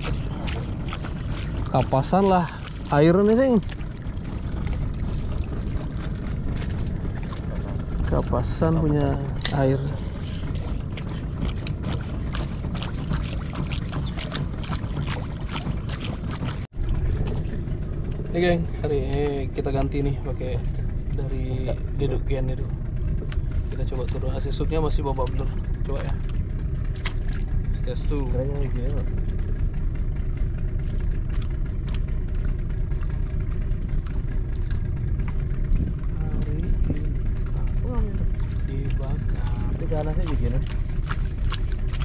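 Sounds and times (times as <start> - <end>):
steady low rumble: 0.0 - 42.0
water splashing against boat hull: 0.0 - 42.0.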